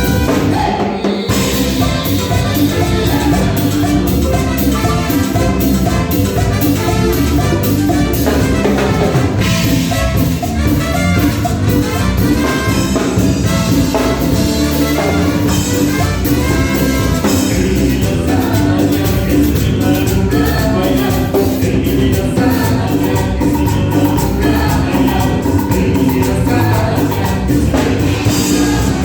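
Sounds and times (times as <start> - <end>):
live band playing latin dance music: 0.0 - 29.0.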